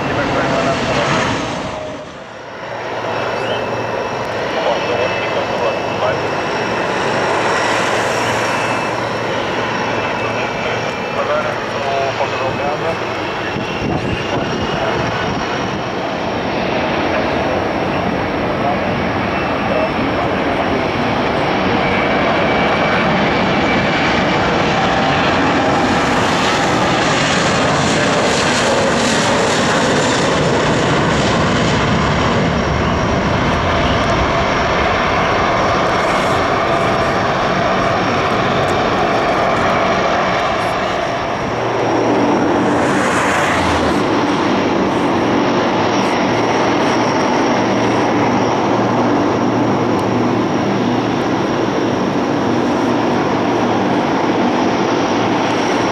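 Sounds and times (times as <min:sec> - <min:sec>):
aircraft engines running: 0:00.0 - 0:55.9.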